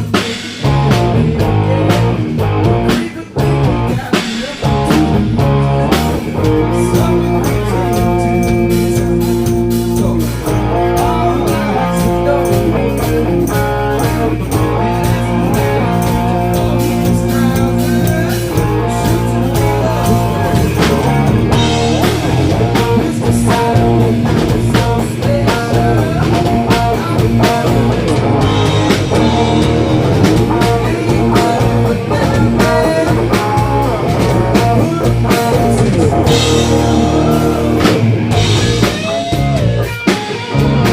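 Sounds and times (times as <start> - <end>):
blues-rock band playing: 0.0 - 40.9
lead guitar: 0.0 - 40.9.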